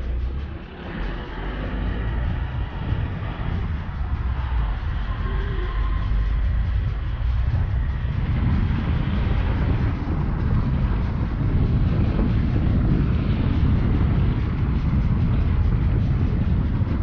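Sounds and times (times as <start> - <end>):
vehicle rumbling on dirt road: 0.0 - 17.0.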